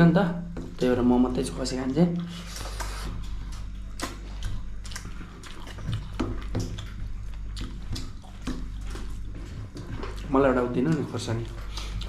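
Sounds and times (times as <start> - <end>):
wet chewing: 2.2 - 12.0.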